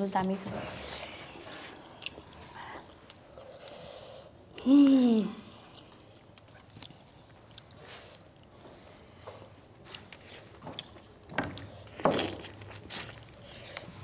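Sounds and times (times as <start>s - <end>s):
chewing and mouth noises: 1.0s - 14.0s.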